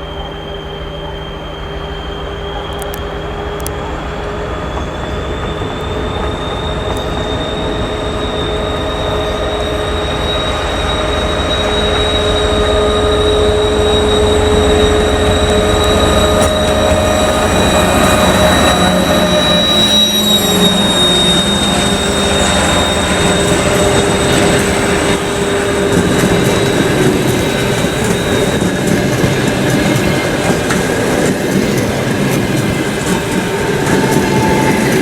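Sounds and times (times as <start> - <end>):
high turbocharger whistle: 0.0 - 32.1, 32.8 - 35.0.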